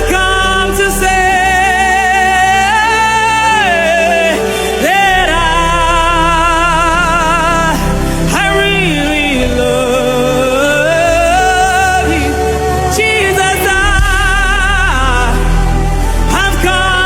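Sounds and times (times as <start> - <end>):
sustained low accompaniment: 0.0 - 17.0.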